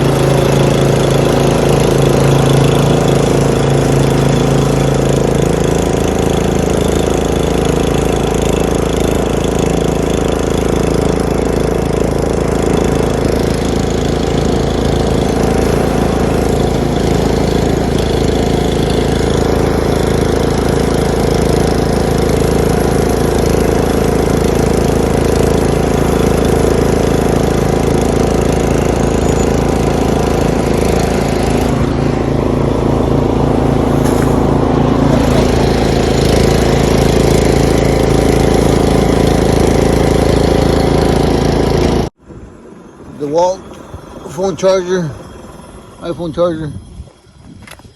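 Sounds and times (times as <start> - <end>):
vehicle engine idling: 0.0 - 47.4.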